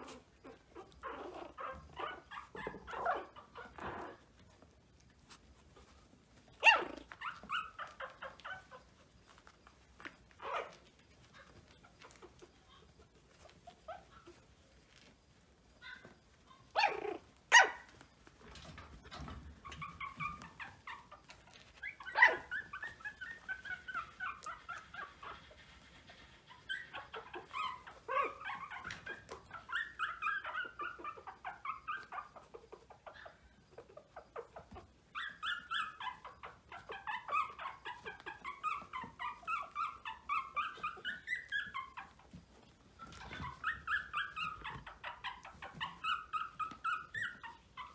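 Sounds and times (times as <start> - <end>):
puppies whining and squeaking: 0.0 - 47.9.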